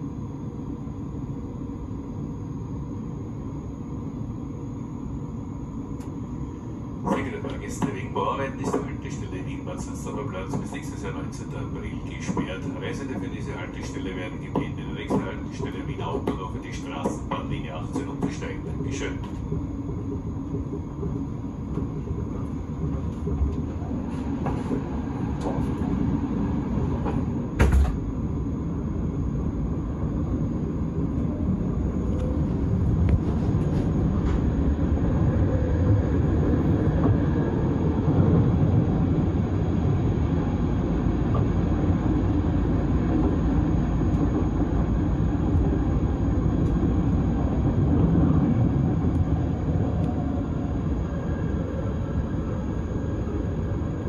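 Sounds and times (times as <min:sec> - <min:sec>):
electric train rumble: 0:00.0 - 0:54.0.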